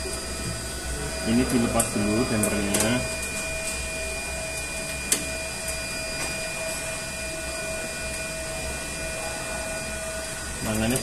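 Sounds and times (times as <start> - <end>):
power supply cabinet whirring: 0.0 - 11.0
thin whining tones: 0.0 - 11.0.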